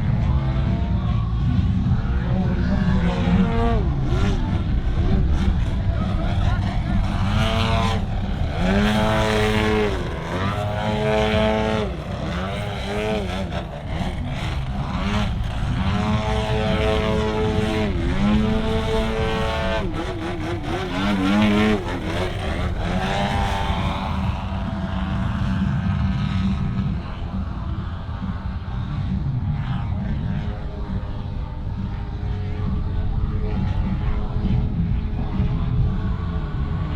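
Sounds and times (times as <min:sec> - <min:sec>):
model plane engine and propeller: 0:00.0 - 0:36.9.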